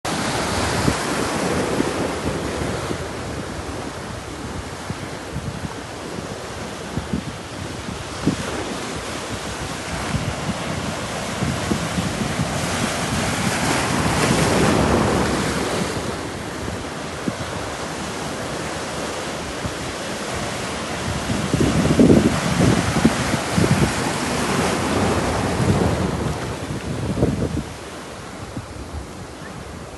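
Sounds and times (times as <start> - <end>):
ocean surf on a beach: 0.1 - 29.9
wind buffeting microphone: 0.1 - 29.9.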